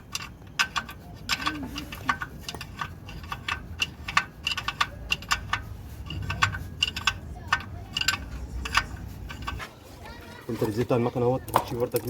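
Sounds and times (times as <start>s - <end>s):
metallic clicks of hand tools: 0.0s - 9.7s.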